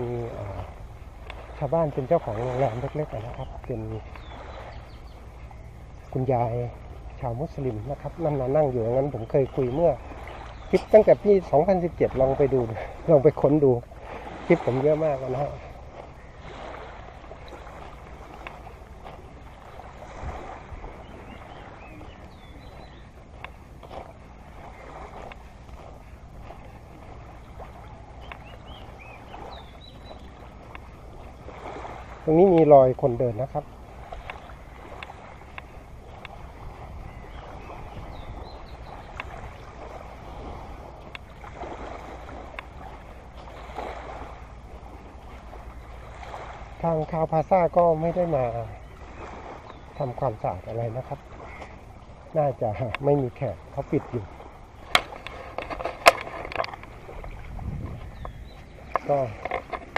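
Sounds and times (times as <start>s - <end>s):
small waves lapping on shore: 0.0s - 59.9s
wind on microphone: 0.0s - 59.9s.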